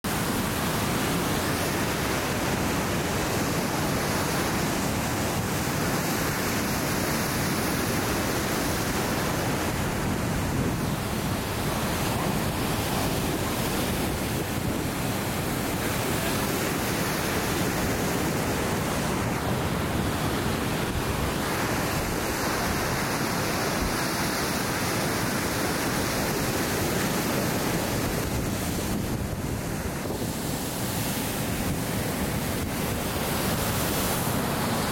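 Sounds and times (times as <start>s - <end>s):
wind: 0.0s - 34.9s.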